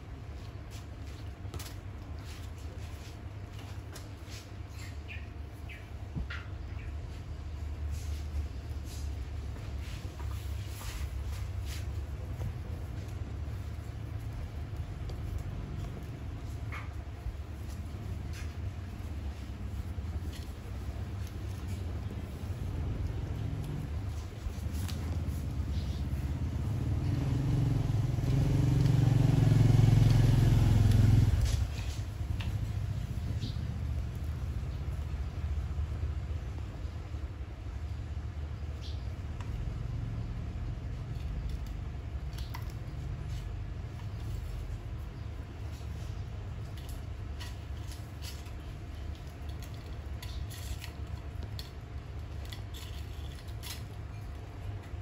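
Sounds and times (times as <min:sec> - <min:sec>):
paws scrabbling on tiles: 0:00.0 - 0:37.2, 0:39.3 - 0:55.0
low background rumble: 0:05.1 - 0:55.0
vehicle engine running: 0:07.6 - 0:55.0.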